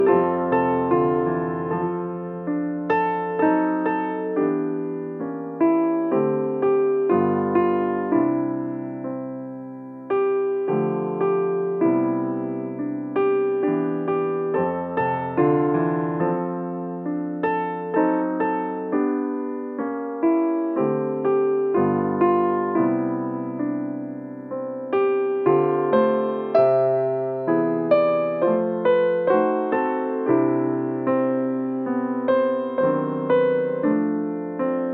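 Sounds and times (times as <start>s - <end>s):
piano piece: 0.0s - 34.9s.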